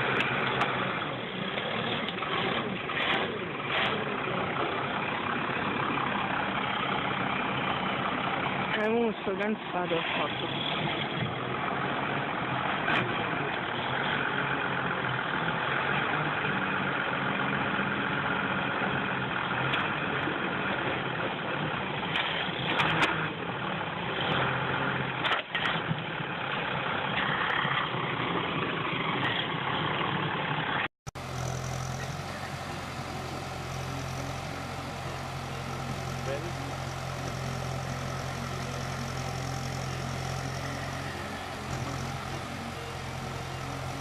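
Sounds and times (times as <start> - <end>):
engine humming low: 0.0 - 44.0
engine running: 0.0 - 44.0.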